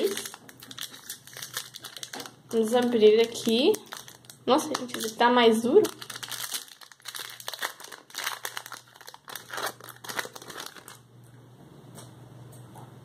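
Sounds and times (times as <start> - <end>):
foil wrapper crinkling: 0.0 - 11.1.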